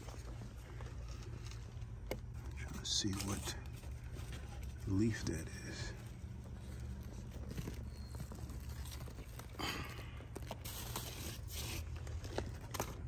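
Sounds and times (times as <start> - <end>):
leaves rustling and tearing: 0.0 - 13.0.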